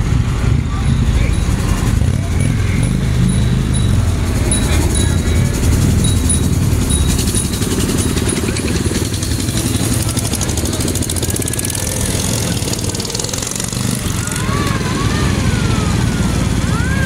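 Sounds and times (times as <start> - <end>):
small engines driving past: 0.0 - 17.0.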